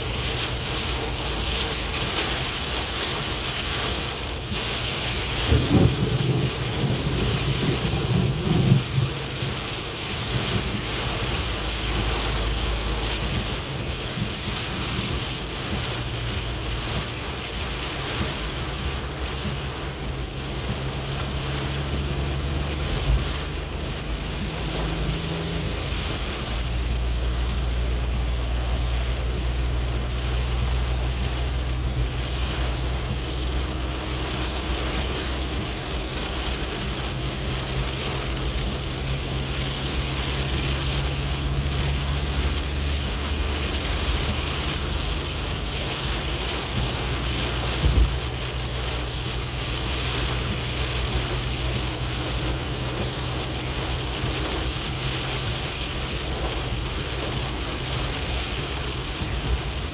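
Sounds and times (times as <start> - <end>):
heavy rain hissing: 0.0 - 59.9
low rumble: 0.0 - 59.9.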